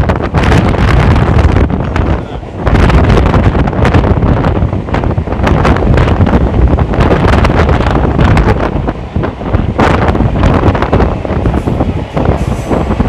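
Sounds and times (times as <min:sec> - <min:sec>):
electric train rumbling and clattering: 0:00.0 - 0:13.0
wind buffeting microphone: 0:00.0 - 0:13.0.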